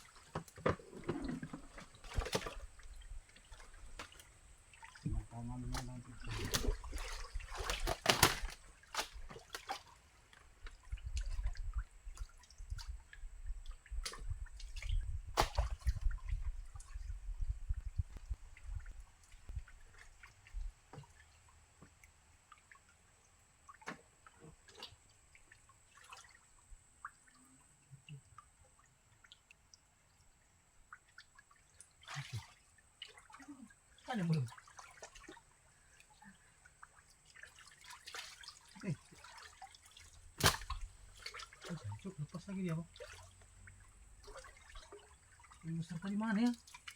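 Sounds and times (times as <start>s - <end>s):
muddy water splashing: 0.0s - 27.5s, 30.8s - 46.9s.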